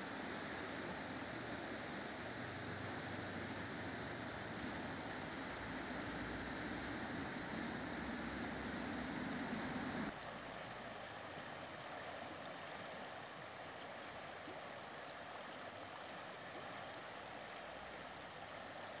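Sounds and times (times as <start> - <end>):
river rushing over stones: 0.0 - 19.0.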